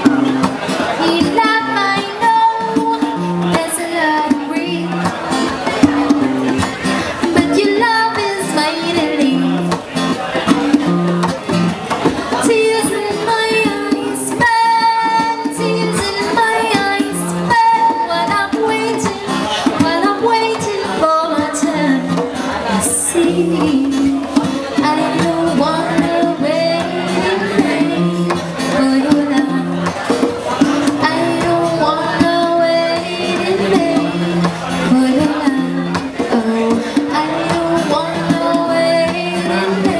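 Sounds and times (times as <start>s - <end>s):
woman singing: 0.0s - 6.2s, 7.2s - 9.8s, 12.3s - 39.9s
plucked guitar: 0.0s - 39.9s.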